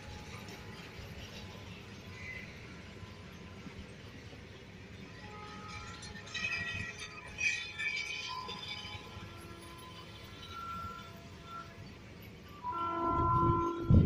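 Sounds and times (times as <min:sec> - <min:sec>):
train wheels squealing on rails: 0:00.0 - 0:14.0.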